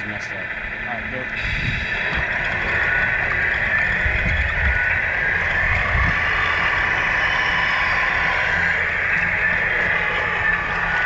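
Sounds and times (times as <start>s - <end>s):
electric motor and gearbox whine: 0.0s - 11.0s.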